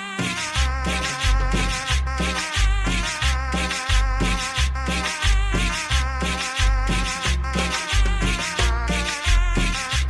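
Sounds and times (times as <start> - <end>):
cumbia music: 0.0 - 10.0.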